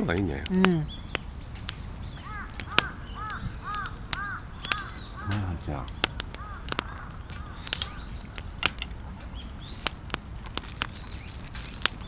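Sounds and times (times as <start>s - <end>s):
faint bird chirps: 0.0s - 8.5s, 10.8s - 12.0s
wood fire crackling and popping: 0.0s - 12.0s.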